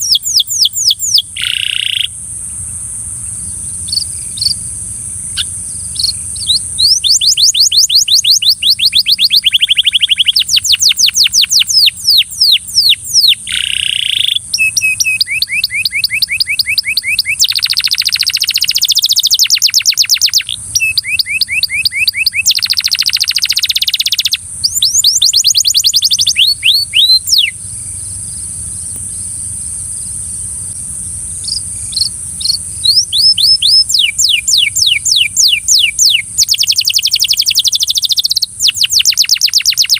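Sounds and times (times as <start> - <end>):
canary singing in trills: 0.0 - 2.2, 3.2 - 29.3, 31.4 - 39.9.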